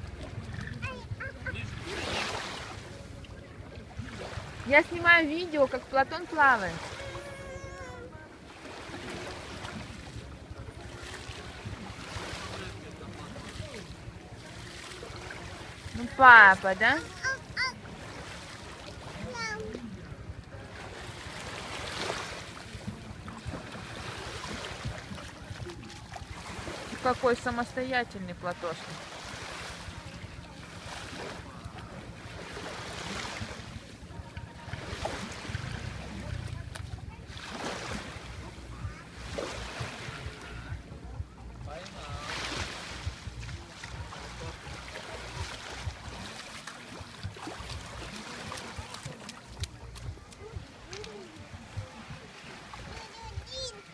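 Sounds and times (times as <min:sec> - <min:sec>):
faint distant voices: 0:00.0 - 0:53.9
sea water lapping: 0:00.0 - 0:53.9.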